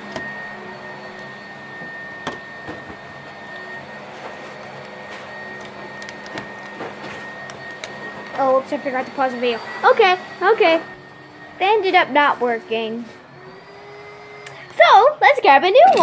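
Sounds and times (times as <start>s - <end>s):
vacuum cleaner motor whining: 0.0s - 16.0s.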